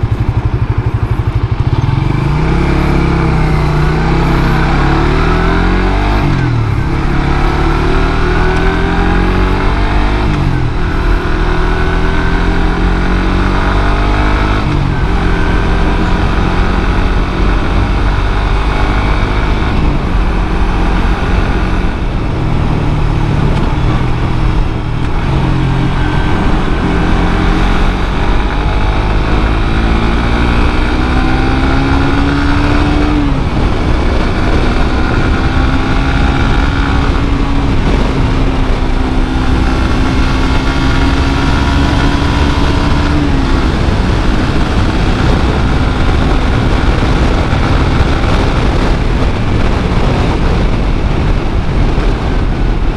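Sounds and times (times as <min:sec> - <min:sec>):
motorcycle engine revving: 0:00.0 - 0:52.9
steady rush of noise: 0:00.0 - 0:52.9.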